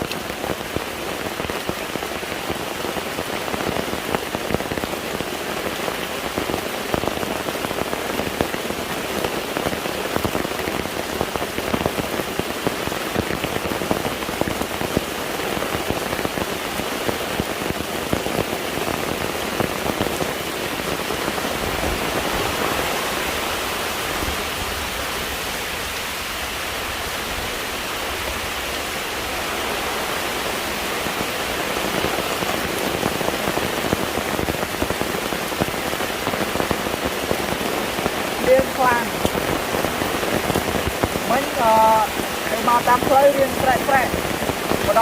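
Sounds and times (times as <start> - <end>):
steady rain patter: 0.0 - 45.0.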